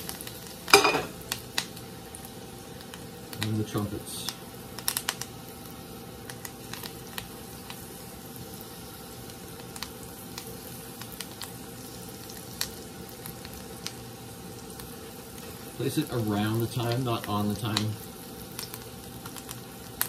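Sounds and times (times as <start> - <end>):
butter sizzling in skillet: 0.0 - 20.0.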